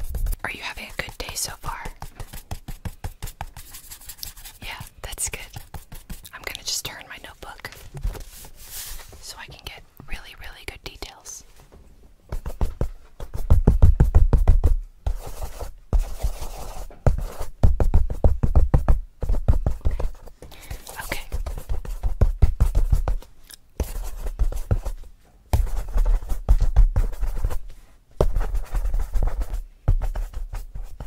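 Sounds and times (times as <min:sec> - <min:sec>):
pencil strokes on paper: 0:00.0 - 0:11.4, 0:15.1 - 0:18.6, 0:19.2 - 0:23.2, 0:23.8 - 0:31.0.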